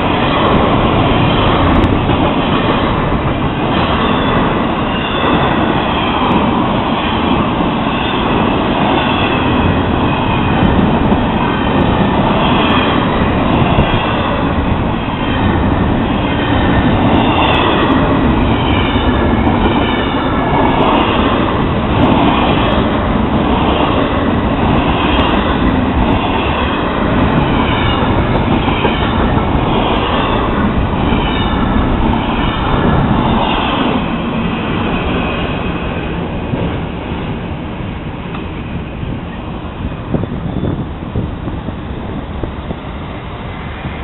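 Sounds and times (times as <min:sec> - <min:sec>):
freight train rolling and clattering: 0:00.0 - 0:44.0.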